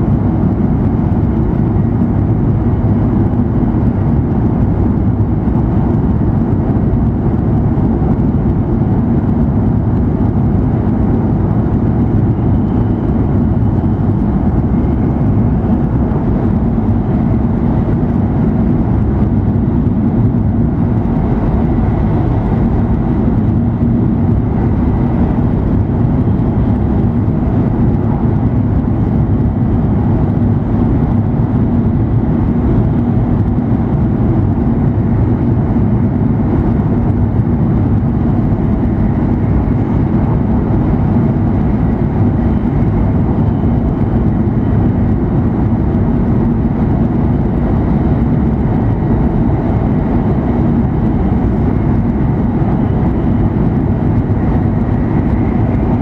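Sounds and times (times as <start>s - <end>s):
high-speed train rumble: 0.0s - 56.0s
low hum: 0.0s - 56.0s.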